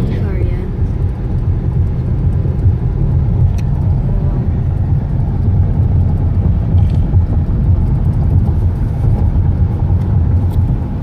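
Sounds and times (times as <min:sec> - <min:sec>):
car interior road and engine rumble: 0:00.0 - 0:11.0.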